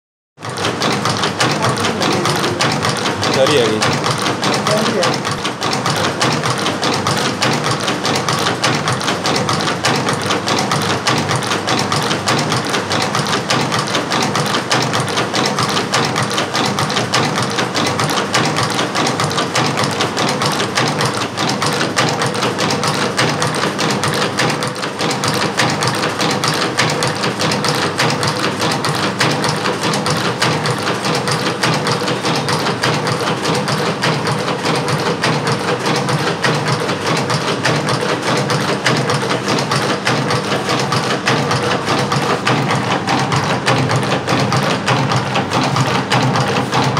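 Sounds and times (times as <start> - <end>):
chain-making machine clattering: 0.4 - 46.9.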